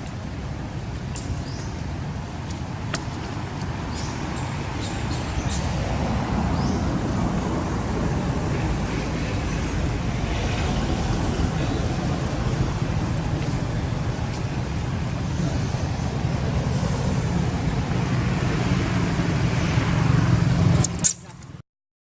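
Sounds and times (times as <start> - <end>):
outdoor rumble and hiss: 0.0 - 21.6.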